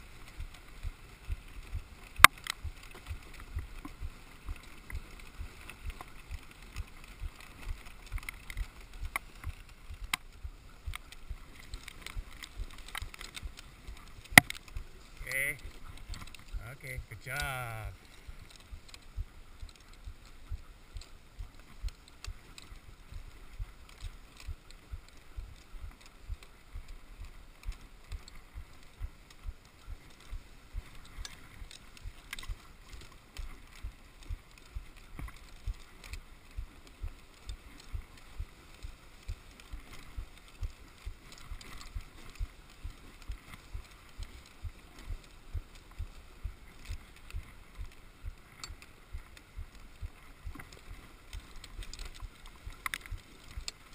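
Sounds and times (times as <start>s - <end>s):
sled runners scraping snow: 0.0s - 53.9s.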